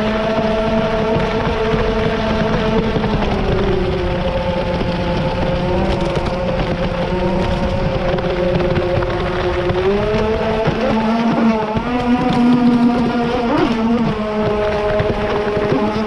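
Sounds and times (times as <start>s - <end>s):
toy boat motor running: 0.0s - 16.0s.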